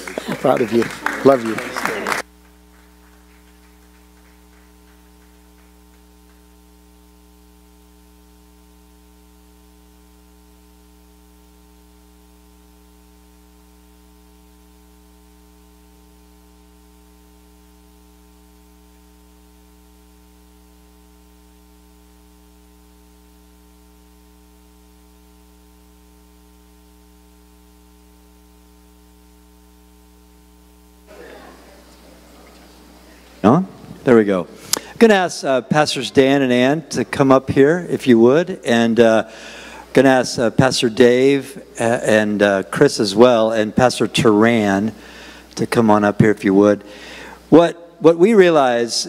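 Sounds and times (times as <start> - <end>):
electrical mains hum: 0.0 - 49.0.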